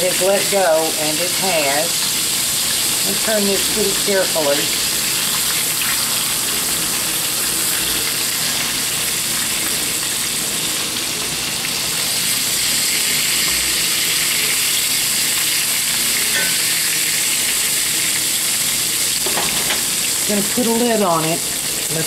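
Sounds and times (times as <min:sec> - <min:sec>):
pork chops sizzling in oil: 0:00.0 - 0:22.0.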